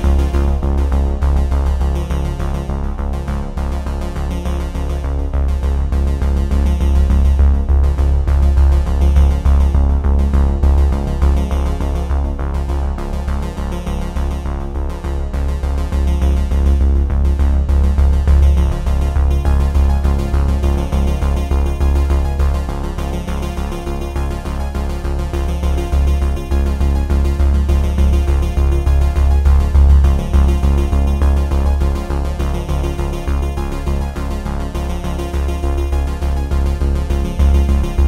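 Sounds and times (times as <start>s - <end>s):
electronic synthesizer music: 0.0s - 38.0s.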